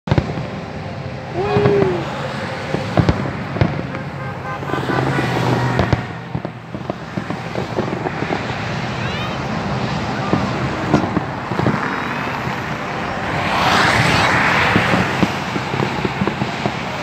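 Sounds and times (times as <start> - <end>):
fireworks bangs and crackles: 0.1 - 17.0.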